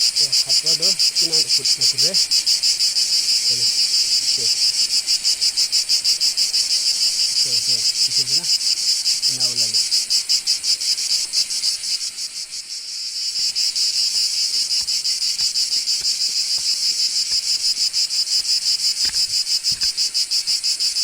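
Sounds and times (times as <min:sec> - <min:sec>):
cicadas pulsing chorus: 0:00.0 - 0:21.0.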